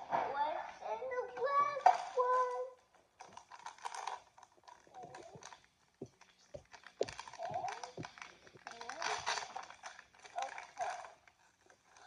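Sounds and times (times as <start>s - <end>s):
plastic bag crinkling: 1.8s - 12.0s.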